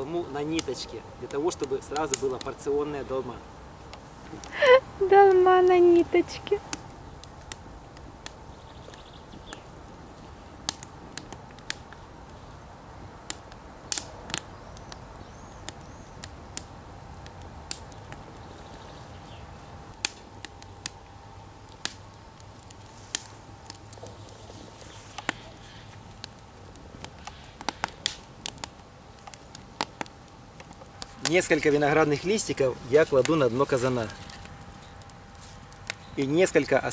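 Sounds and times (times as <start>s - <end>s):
fire crackling and popping: 0.0s - 36.9s.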